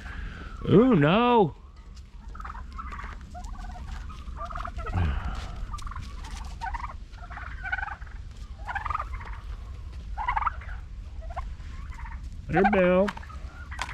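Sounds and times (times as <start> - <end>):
turkeys gobbling: 0.0 - 13.9.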